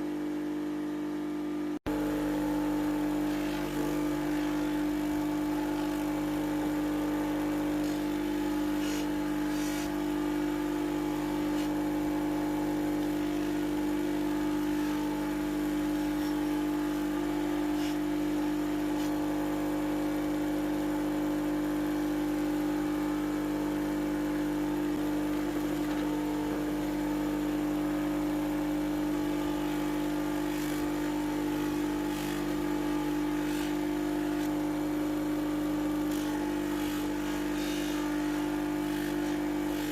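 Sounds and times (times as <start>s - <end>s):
electric grinding machine humming: 0.0s - 39.9s.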